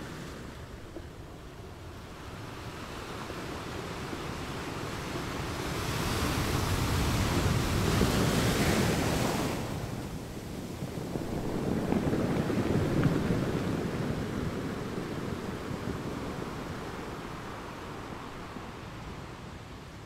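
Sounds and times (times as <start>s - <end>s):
rushing surf-like noise: 0.0s - 20.0s.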